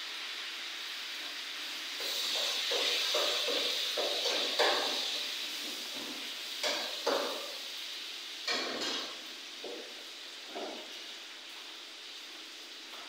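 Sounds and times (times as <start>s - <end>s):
stove hissing: 0.0s - 13.0s.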